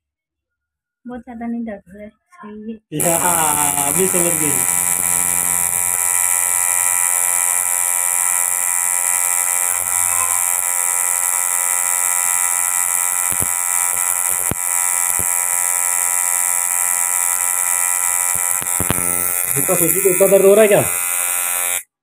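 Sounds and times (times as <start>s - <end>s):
tattoo machine buzzing: 3.0s - 22.0s.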